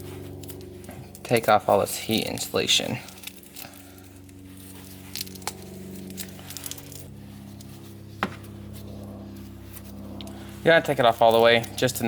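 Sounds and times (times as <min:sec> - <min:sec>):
electrical hum: 0:00.0 - 0:12.0
insulation peeling and tearing: 0:00.0 - 0:12.0.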